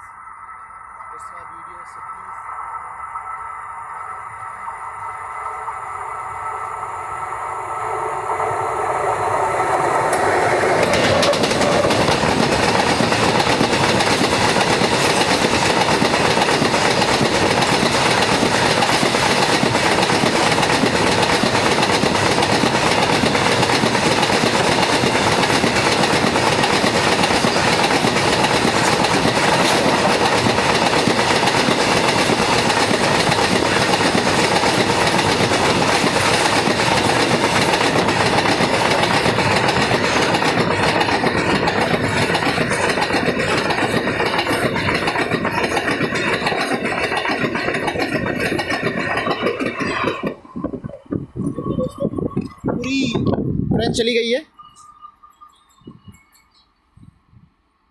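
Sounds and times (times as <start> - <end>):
train wheels running on rails: 0.0 - 57.2.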